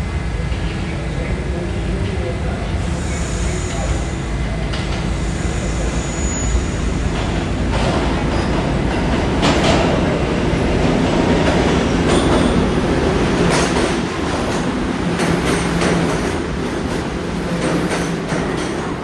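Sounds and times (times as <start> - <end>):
subway train rumble and hum: 0.0 - 19.0.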